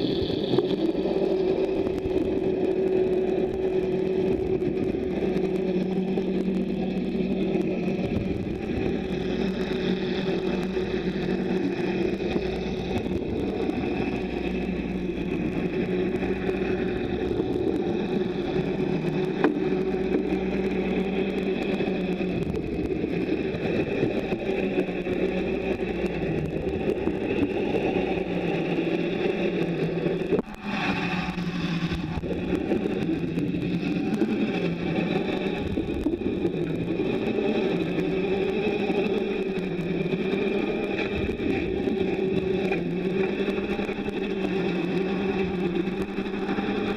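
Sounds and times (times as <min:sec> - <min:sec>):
noisy rush: 0:00.0 - 0:46.9
underwater mechanical hum: 0:00.0 - 0:46.9.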